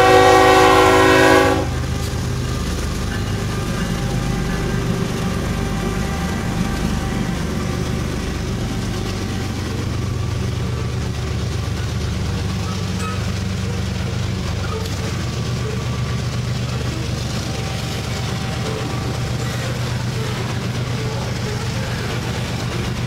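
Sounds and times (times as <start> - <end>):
low engine drone: 0.0 - 23.0
train wheels rumbling on rail: 0.0 - 23.0.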